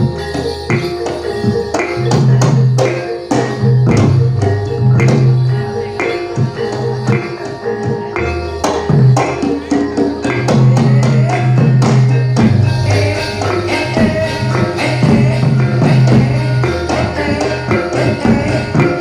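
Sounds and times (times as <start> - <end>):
drum strikes: 0.0 - 19.0
gamelan ensemble playing: 0.0 - 19.0.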